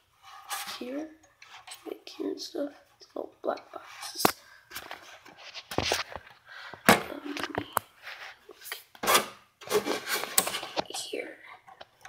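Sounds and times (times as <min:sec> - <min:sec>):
rubbing and scraping of parts: 0:00.0 - 0:01.9, 0:03.7 - 0:12.0.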